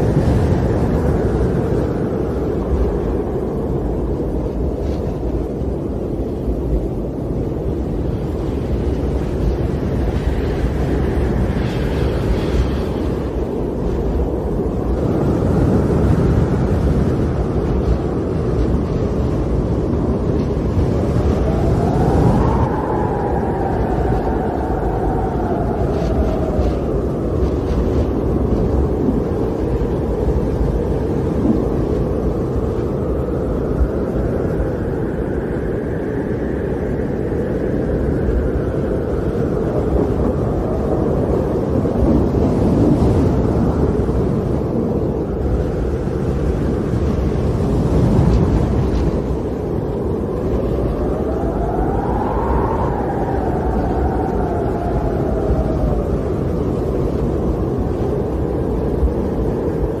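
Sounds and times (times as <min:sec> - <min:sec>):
snowstorm wind rushing: 0:00.0 - 1:00.0.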